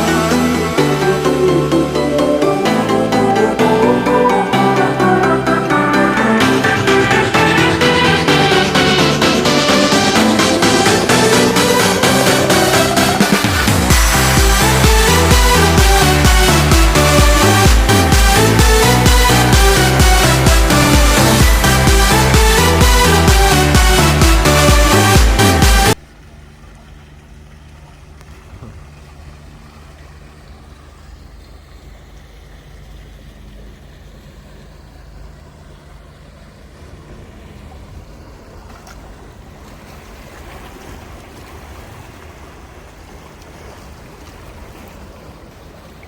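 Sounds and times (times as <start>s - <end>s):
boat engine humming: 0.0s - 46.0s
water rushing past hull: 0.0s - 46.0s.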